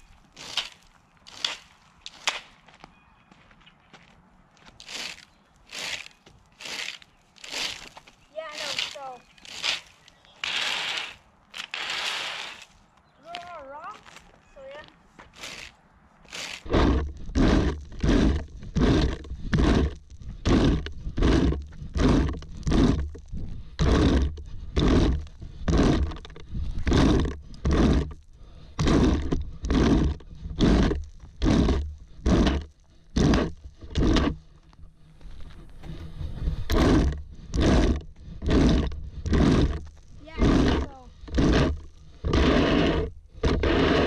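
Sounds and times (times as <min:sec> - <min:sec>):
plastic rake scraping grass and rocks: 0:00.0 - 0:02.6, 0:04.7 - 0:44.0.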